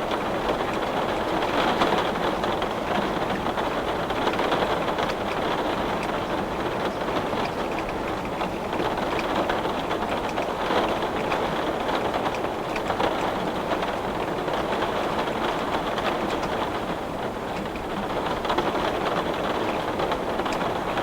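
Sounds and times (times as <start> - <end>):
heavy rain on glass: 0.0 - 21.0.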